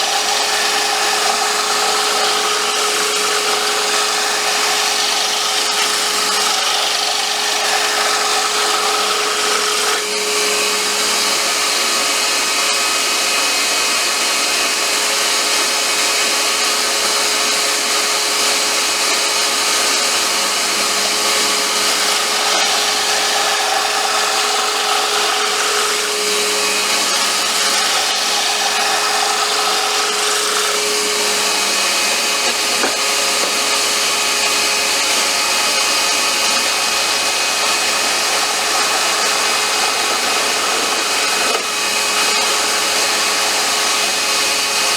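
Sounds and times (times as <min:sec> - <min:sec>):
tool cutting wood hiss: 0:00.0 - 0:12.8, 0:18.6 - 0:44.9
wood lathe running: 0:00.0 - 0:44.9.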